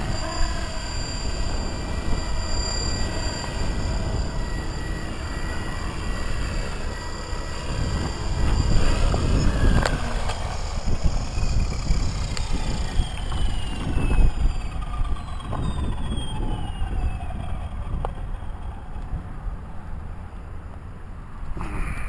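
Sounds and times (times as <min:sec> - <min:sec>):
rc helicopter rotor whine spooling down: 0:00.0 - 0:22.0.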